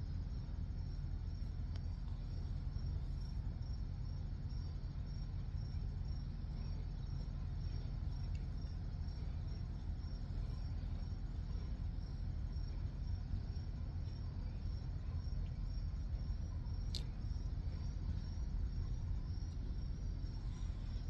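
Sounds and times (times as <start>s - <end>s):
cricket chirping: 0.0s - 21.0s
low background rumble: 0.0s - 21.0s.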